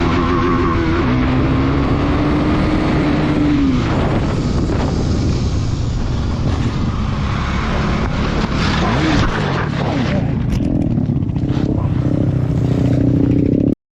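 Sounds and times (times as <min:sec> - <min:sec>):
wind noise on microphone: 0:00.0 - 0:13.7
motorcycle engine at speed: 0:00.0 - 0:13.8.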